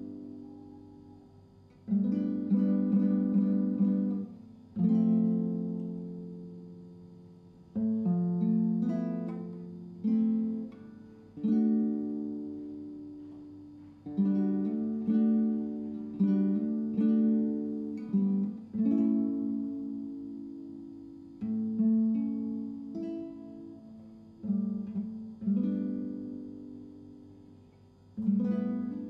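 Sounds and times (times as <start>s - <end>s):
acoustic guitar strummed chords: 0.0s - 29.0s.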